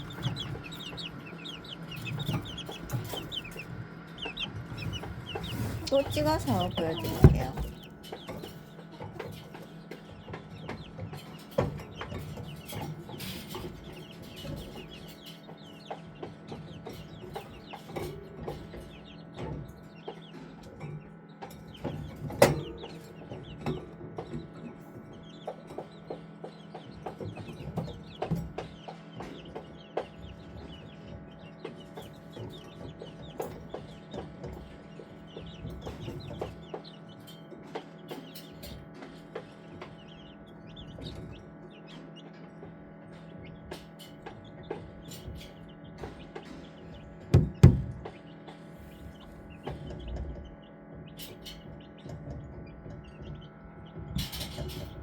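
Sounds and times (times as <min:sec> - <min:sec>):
chicks peeping: 0:00.0 - 0:55.0
steady low hum: 0:00.0 - 0:55.0.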